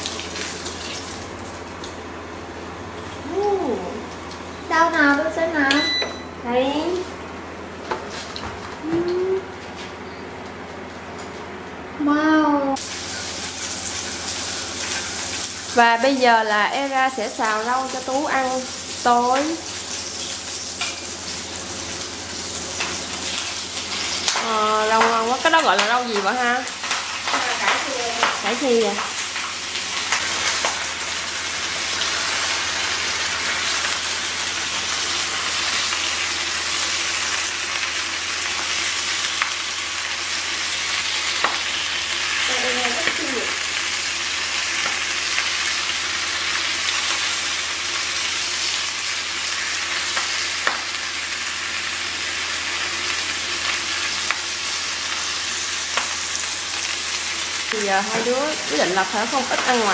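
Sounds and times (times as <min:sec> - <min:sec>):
greens sizzling in a hot pan: 0:00.0 - 0:02.0, 0:12.8 - 0:59.9.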